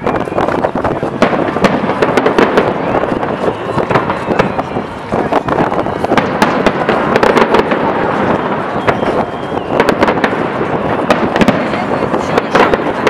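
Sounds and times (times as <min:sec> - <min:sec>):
continuous noisy background: 0:00.0 - 0:13.0
fireworks bursting: 0:00.0 - 0:13.0.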